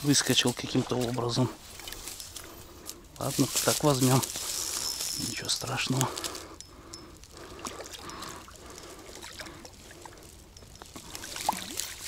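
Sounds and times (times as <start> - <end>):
water splashing and trickling: 0.0 - 5.9, 6.8 - 12.0
small clicks and rustles: 0.2 - 12.0.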